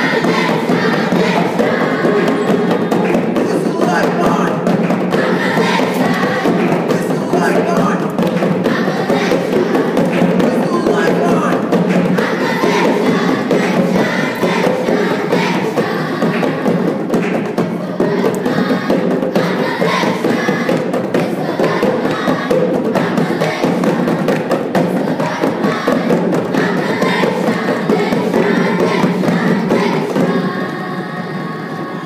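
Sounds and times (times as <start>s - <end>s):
hands clapping in rhythm: 0.0s - 30.8s
children's choir singing: 0.0s - 32.0s
hand drums: 0.0s - 32.0s.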